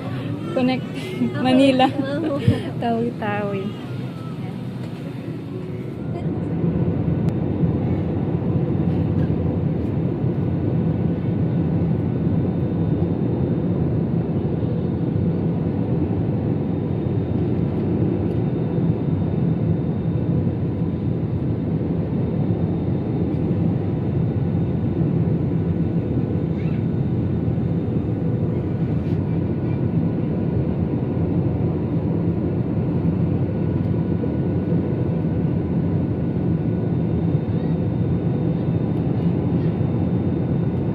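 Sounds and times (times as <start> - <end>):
airliner engine drone: 0.0 - 40.9.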